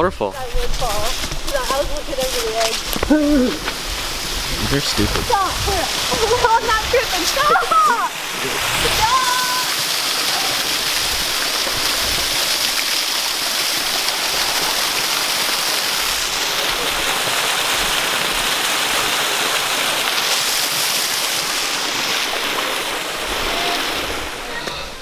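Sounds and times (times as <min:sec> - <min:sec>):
waterfall splashing over rocks: 0:00.6 - 0:25.0.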